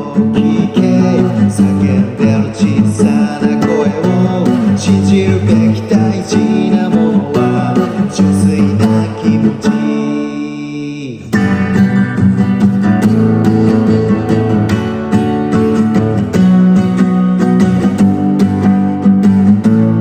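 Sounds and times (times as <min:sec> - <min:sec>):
guitar strumming: 0:00.0 - 0:20.0.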